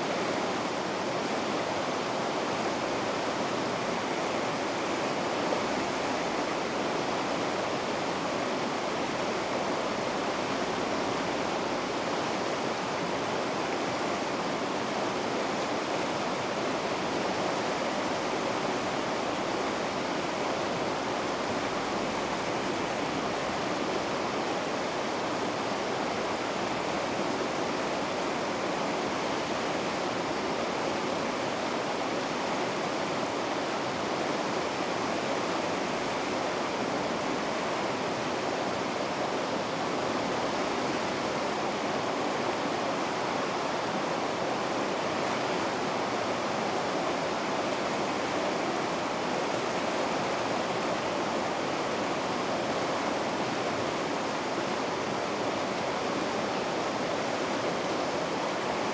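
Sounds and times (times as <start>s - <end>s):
river rapids rushing: 0.0s - 58.9s.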